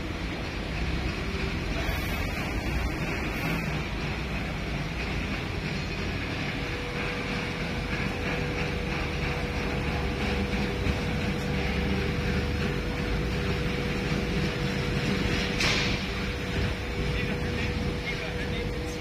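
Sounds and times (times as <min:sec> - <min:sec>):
diesel engine rumbling: 0:00.0 - 0:19.0
thin steady whine: 0:00.0 - 0:19.0.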